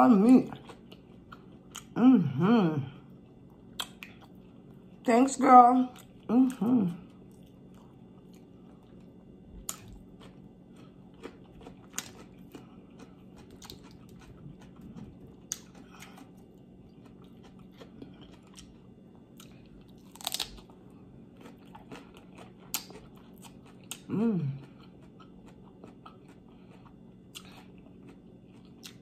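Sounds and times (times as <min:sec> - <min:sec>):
chewing raw vegetables crunching: 0:00.0 - 0:02.0, 0:03.0 - 0:05.1, 0:05.8 - 0:29.0.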